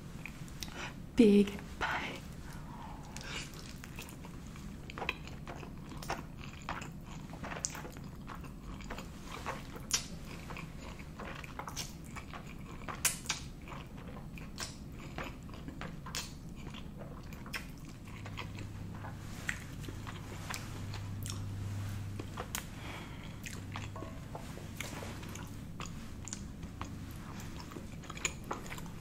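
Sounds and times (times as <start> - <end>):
person chewing food: 0.1 - 1.0, 2.2 - 29.0.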